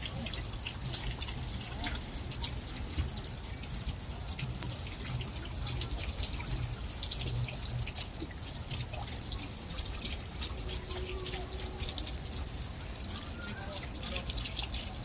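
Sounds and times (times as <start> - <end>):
water dripping: 0.0 - 15.0
water splashing off water wheel: 0.0 - 15.0.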